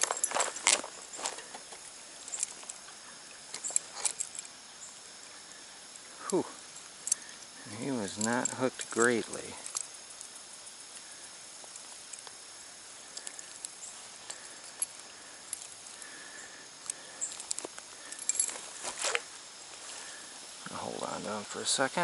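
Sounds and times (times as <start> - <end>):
small clicks and rustles: 0.0 - 20.6
insects chirring: 0.0 - 22.0.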